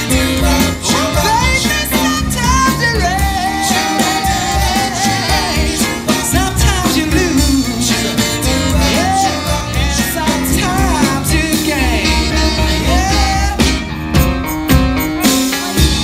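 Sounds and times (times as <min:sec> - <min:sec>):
man singing lead: 0:00.0 - 0:13.8
live band playing: 0:00.0 - 0:16.0.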